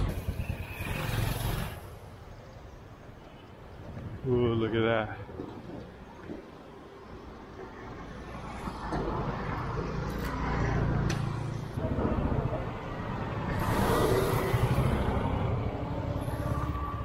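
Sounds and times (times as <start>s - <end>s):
vehicles driving past: 0.0s - 17.0s.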